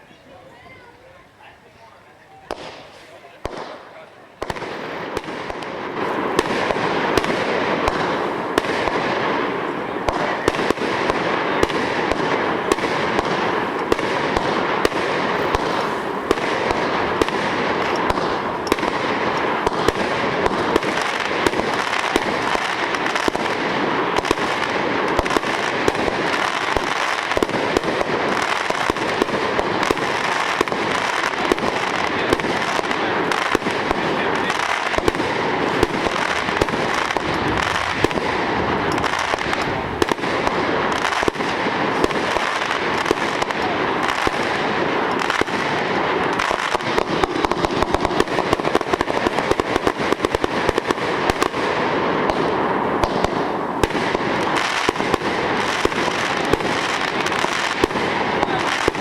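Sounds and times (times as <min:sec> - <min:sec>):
fireworks firing: 0:00.0 - 0:59.0.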